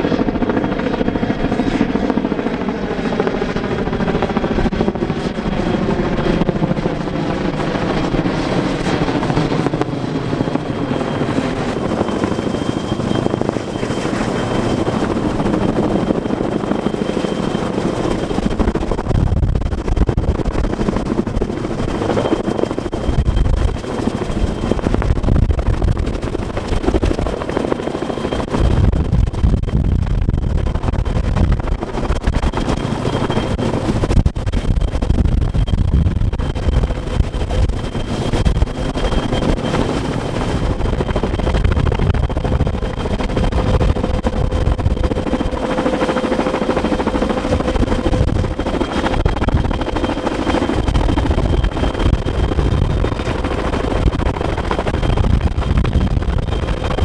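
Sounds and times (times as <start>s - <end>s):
helicopter rotors chopping: 0.0s - 57.0s
turbine engine whine: 0.0s - 57.0s.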